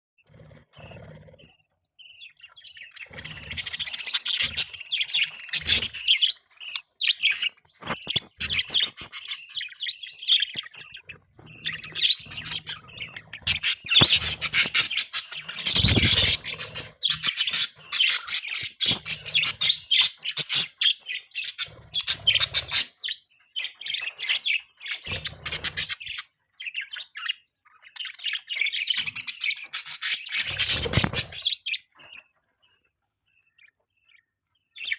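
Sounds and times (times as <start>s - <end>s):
budgies chirping and warbling: 0.2s - 34.9s.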